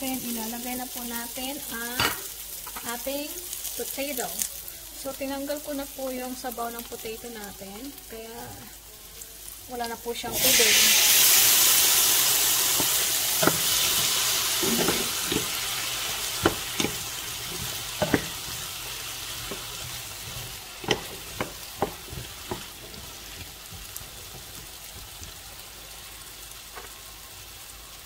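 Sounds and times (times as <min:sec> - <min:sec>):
potatoes sizzling in oil: 0:00.0 - 0:28.0.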